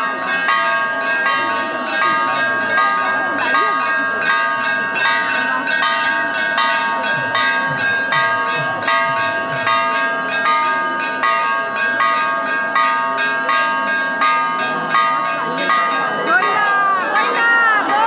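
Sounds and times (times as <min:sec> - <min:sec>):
large bell rung rapidly: 0:00.0 - 0:18.0.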